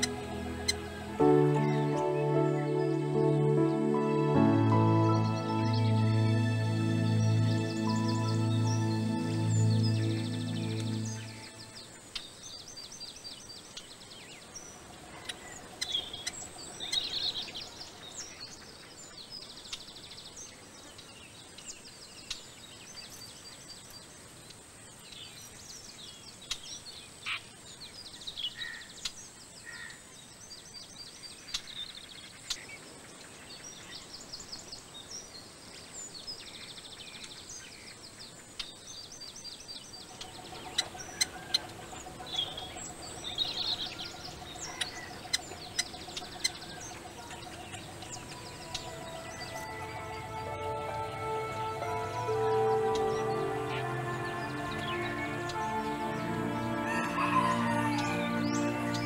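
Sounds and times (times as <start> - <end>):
birds chirping and trilling: 0.0 - 59.0
steady outdoor hiss: 0.0 - 59.0.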